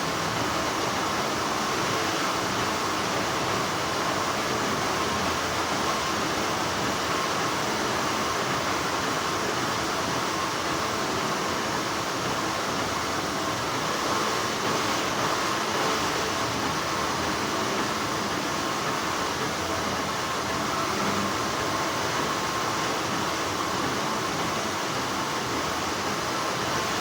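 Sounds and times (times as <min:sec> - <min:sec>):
factory machinery hum and hiss: 0:00.0 - 0:27.0.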